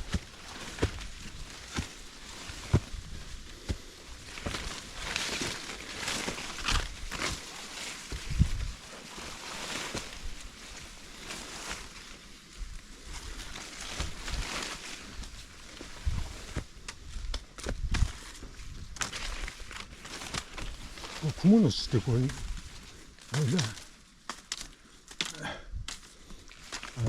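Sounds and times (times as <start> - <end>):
footsteps on dirt trail: 0.0 - 24.0
scuffing and rustling: 0.0 - 24.2.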